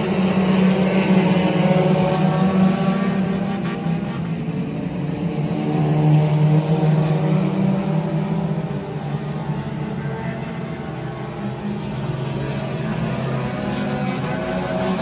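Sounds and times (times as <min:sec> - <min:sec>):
race car engines passing: 0:00.0 - 0:15.0.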